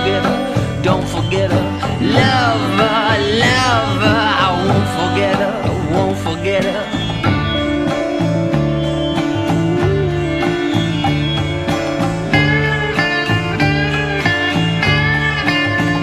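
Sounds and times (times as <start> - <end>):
song with plucked strings and bass: 0.0 - 16.0.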